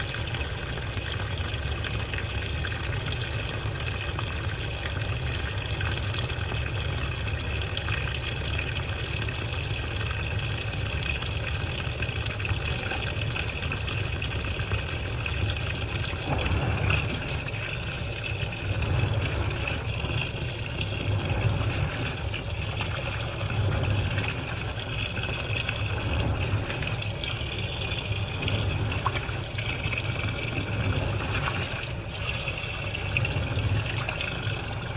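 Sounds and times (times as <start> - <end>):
washing machine hum: 0.0 - 34.9
water sloshing in washing machine: 0.0 - 34.9.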